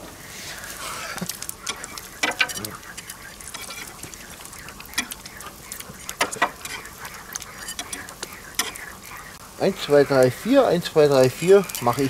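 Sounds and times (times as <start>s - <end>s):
food sizzling on hot plate: 0.3s - 12.0s
metal spatula scraping griddle: 0.5s - 9.4s, 11.1s - 12.0s.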